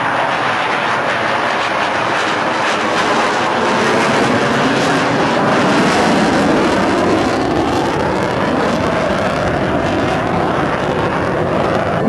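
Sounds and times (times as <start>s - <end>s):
jet engines flying overhead: 0.0s - 12.0s.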